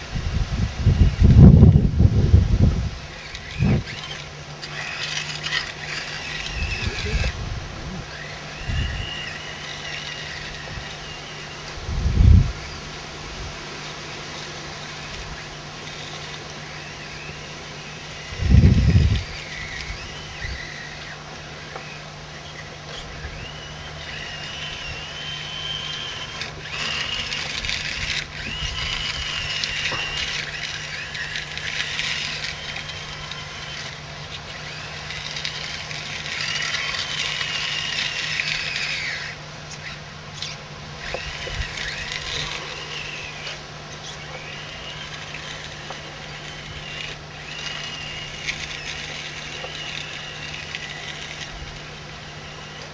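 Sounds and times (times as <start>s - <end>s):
small electric motors whining: 0.0s - 52.9s.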